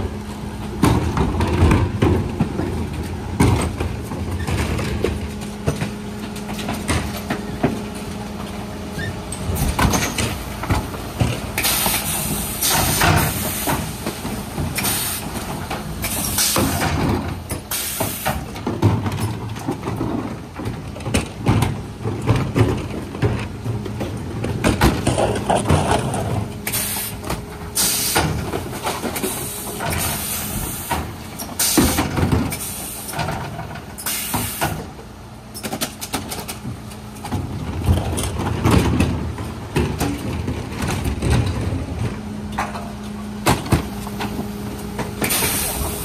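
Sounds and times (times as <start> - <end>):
truck engine and hydraulics hum: 0.0 - 46.0.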